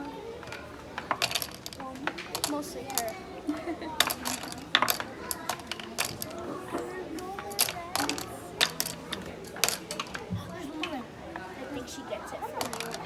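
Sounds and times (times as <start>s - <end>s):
toy pieces clicking and clattering: 0.0s - 11.5s, 12.4s - 13.0s
voices murmuring: 0.0s - 13.0s.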